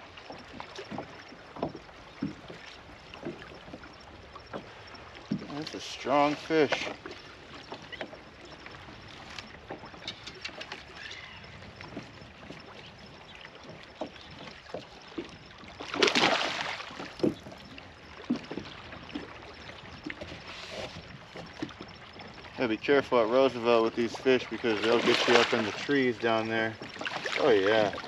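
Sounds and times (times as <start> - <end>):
water splashing: 0.0 - 28.0.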